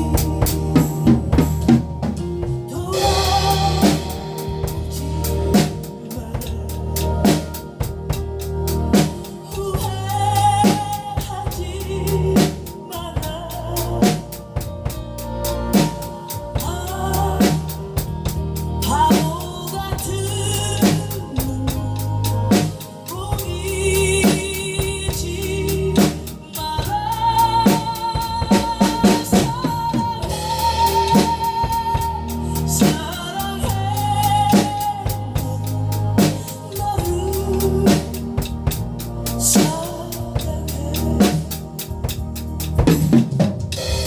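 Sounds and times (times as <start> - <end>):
drum kit playing a beat: 0.0 - 44.0
song with vocals: 0.0 - 44.0.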